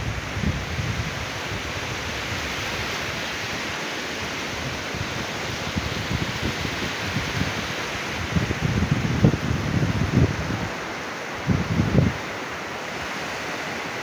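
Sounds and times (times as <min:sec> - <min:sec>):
wind buffeting microphone: 0:00.0 - 0:12.3
sea surf: 0:00.0 - 0:14.0.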